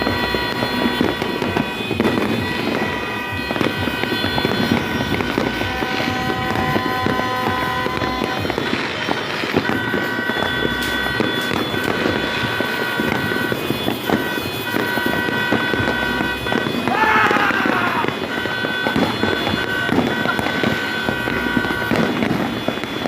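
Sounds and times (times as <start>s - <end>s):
fireworks crackling: 0.0s - 23.0s
long steady high tones: 0.0s - 23.0s.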